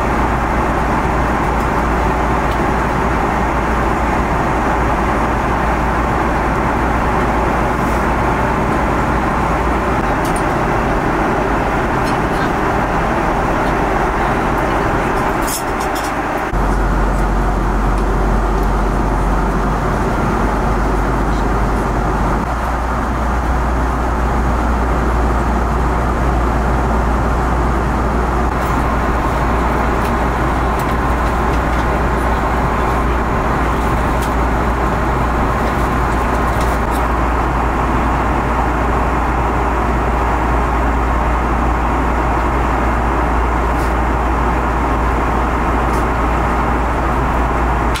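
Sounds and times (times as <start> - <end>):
airliner cabin roar: 0.0 - 48.0.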